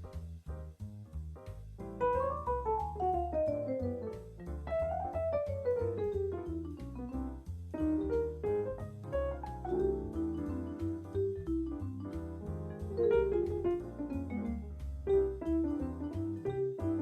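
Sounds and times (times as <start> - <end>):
jazz melodic solo: 0.0 - 17.0
walking bass: 0.0 - 17.0.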